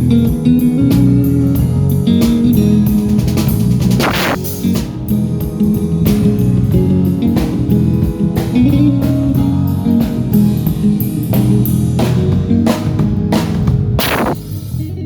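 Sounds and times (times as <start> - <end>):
live band playing: 0.0 - 15.0
drum hits: 1.0 - 14.6.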